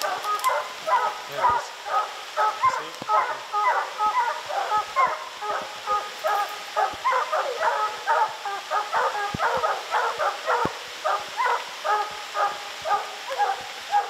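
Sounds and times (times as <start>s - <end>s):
hounds barking: 0.0s - 14.0s.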